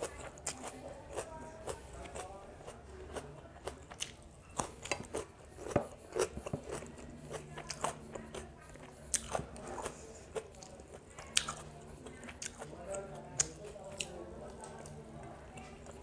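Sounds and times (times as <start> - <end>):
chewing crisp cucumber: 0.0 - 16.0.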